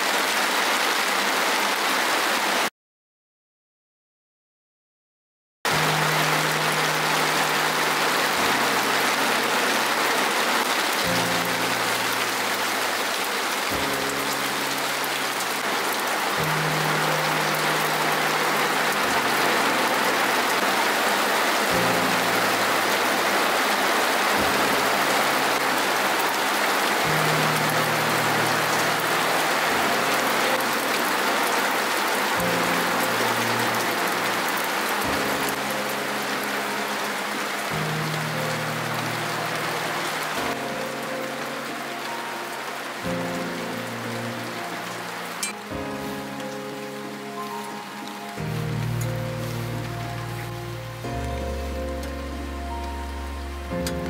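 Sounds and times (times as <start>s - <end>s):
rain falling on a tent: 0.0s - 2.7s, 5.7s - 54.0s
soft background music: 5.7s - 54.0s.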